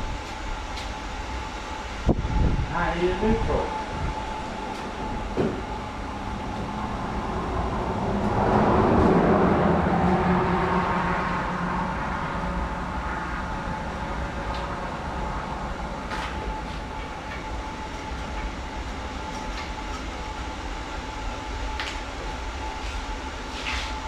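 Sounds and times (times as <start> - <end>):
mechanical hum and rumble: 0.0 - 24.0.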